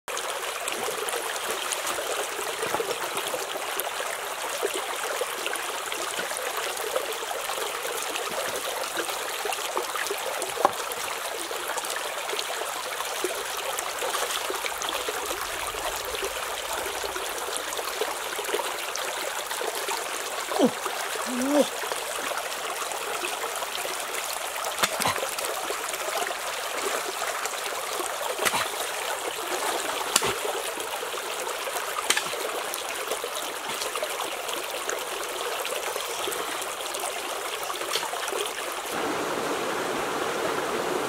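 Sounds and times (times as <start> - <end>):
stream running over stones: 0.1 - 41.0.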